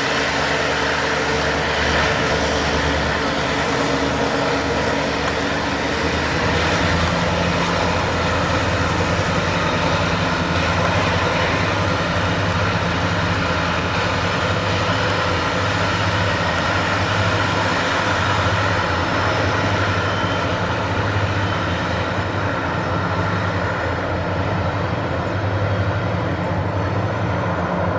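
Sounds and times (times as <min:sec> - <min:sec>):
diesel locomotive engines droning: 0:00.0 - 0:27.9.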